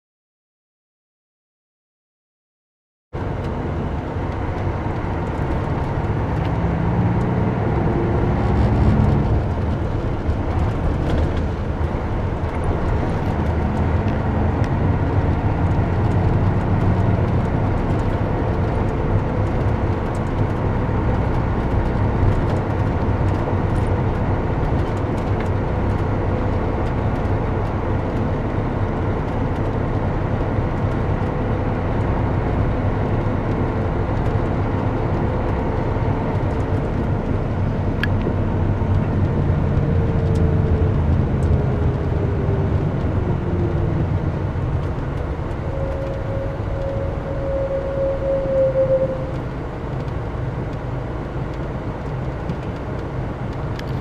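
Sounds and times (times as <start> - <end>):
diesel engine running: 3.2 - 54.0
road noise: 3.2 - 54.0.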